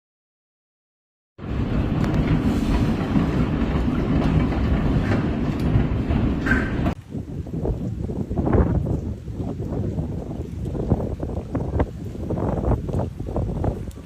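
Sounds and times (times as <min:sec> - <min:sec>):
deep storm rumble: 0:01.4 - 0:14.0.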